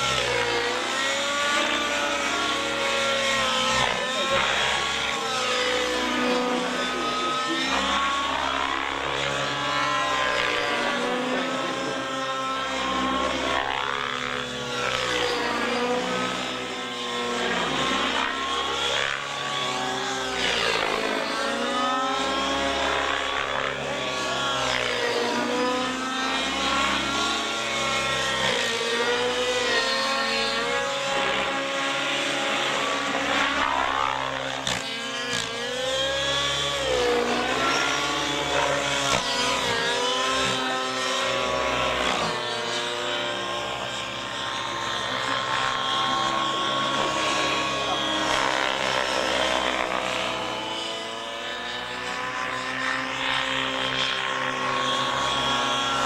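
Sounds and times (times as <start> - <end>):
rc helicopter engine and rotors: 0.0 - 56.0.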